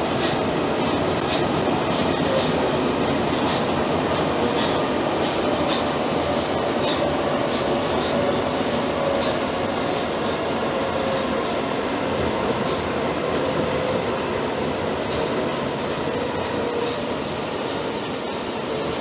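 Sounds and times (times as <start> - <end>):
train rolling noise: 0.0 - 19.0.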